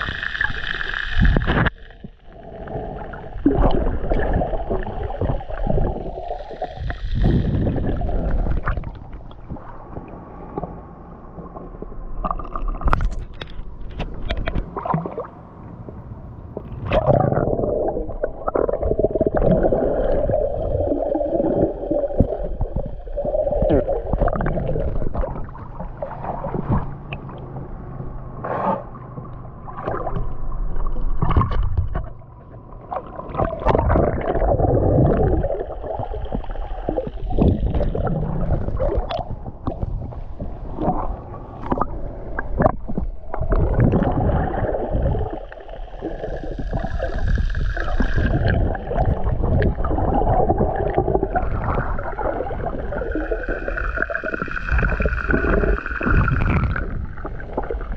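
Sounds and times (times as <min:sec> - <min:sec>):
muffled water sloshing underwater: 0:00.0 - 0:57.9.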